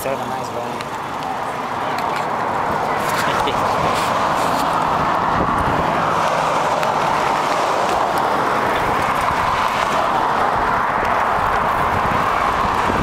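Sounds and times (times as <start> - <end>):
bicycle tyre and air noise: 0.9 - 13.0.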